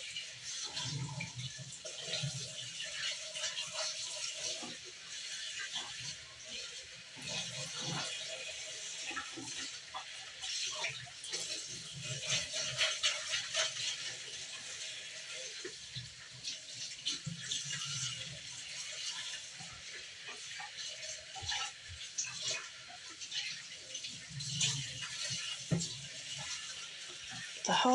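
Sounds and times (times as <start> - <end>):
water running from tap: 0.0 - 27.9.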